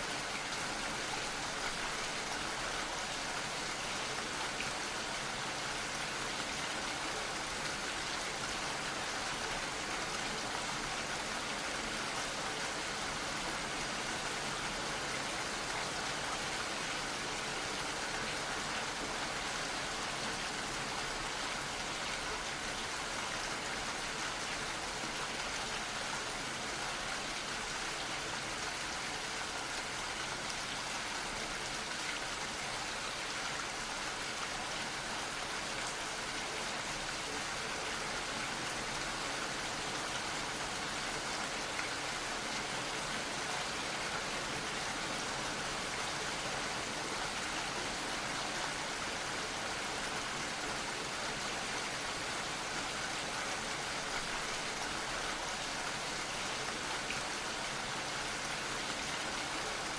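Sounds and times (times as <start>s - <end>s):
gentle rain patter: 0.0s - 59.9s.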